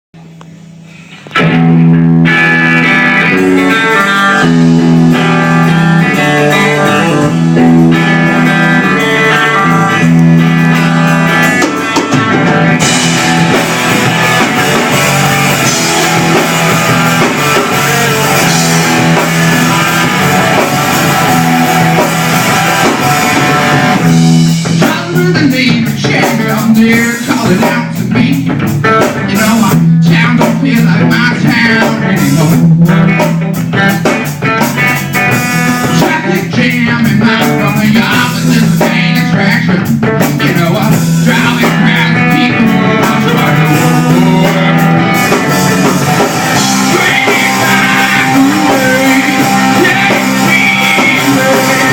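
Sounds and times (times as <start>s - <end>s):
drum kit: 0.2s - 51.9s
rock guitar: 0.2s - 51.9s.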